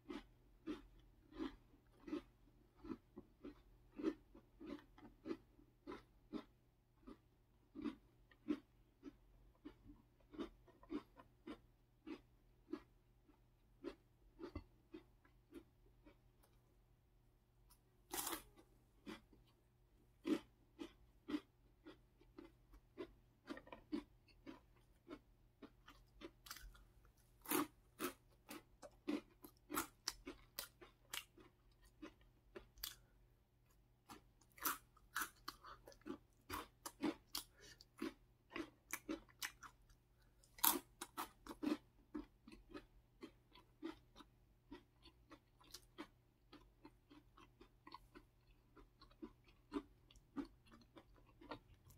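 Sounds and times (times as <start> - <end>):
crunchy snack chewing: 0.0 - 16.7, 17.7 - 51.9.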